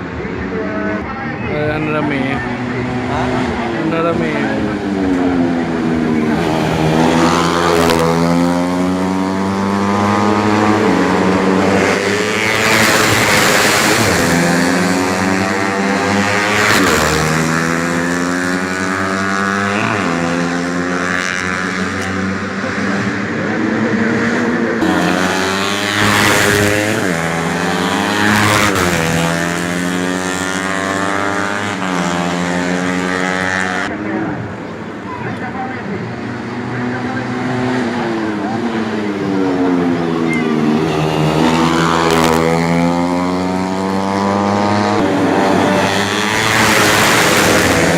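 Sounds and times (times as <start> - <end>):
motorcycles revving past: 1.9 - 33.9, 36.2 - 47.9.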